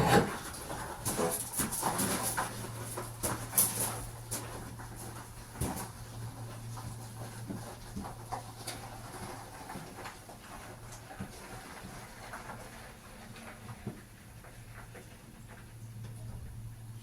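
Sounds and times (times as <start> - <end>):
gravel crunching: 0.0 - 16.5.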